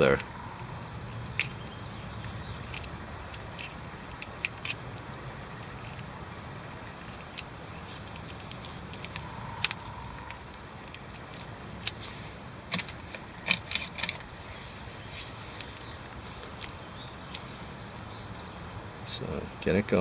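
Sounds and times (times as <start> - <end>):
steady low hum: 0.0 - 20.0
hands handling crackly packaging: 2.2 - 20.0.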